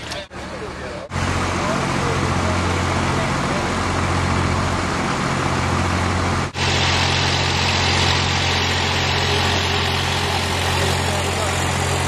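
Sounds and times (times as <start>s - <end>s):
large engine idling: 0.0s - 12.0s.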